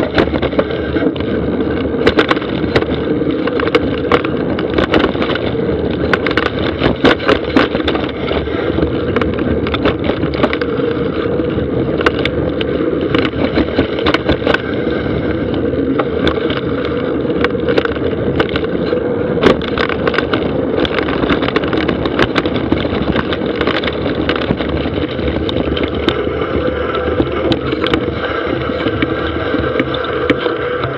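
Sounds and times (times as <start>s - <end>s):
bike rattling over bumps: 0.0s - 30.9s
bike tyres rumbling on dirt: 0.0s - 30.9s.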